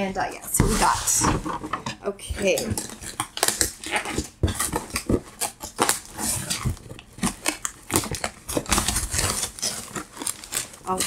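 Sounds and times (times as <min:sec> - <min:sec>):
cardboard box being opened: 0:00.0 - 0:11.0
rustling and crinkling of wrapping: 0:00.0 - 0:11.0
cardboard clicks and knocks: 0:00.5 - 0:11.0.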